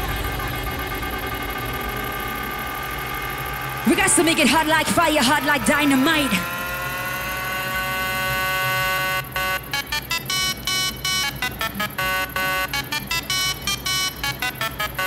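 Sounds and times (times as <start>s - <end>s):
held synth chord: 0.0s - 15.0s
stuttering synth pattern: 0.0s - 15.0s.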